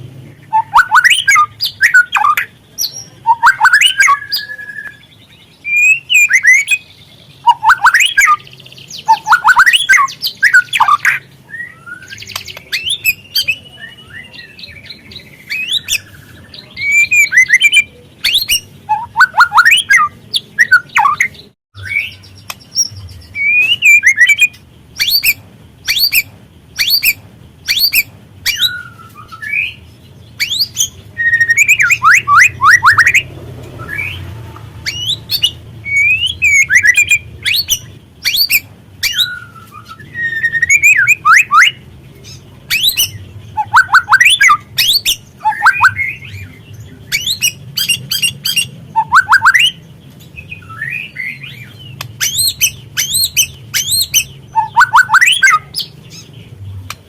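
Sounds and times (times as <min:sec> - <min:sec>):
harsh squawky bird calls: 0:00.0 - 0:57.0
bird whistled notes: 0:00.4 - 0:14.8, 0:15.4 - 0:29.8, 0:30.4 - 0:34.2, 0:34.8 - 0:41.8, 0:42.7 - 0:46.5, 0:47.1 - 0:49.8, 0:50.4 - 0:56.2.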